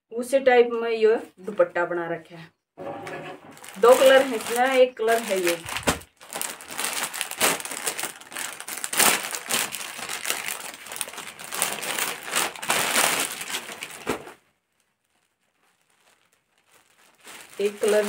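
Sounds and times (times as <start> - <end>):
plastic bag crinkling: 3.4 - 18.0.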